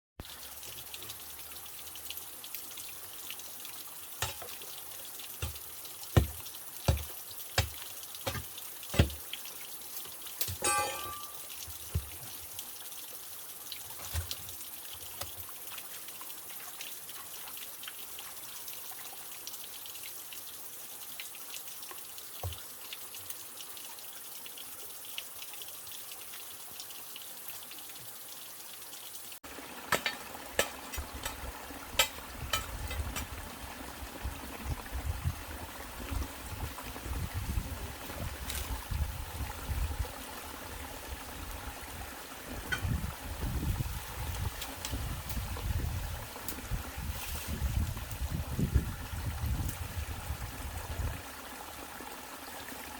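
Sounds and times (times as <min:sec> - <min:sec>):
water running and trickling: 0:00.2 - 0:52.9.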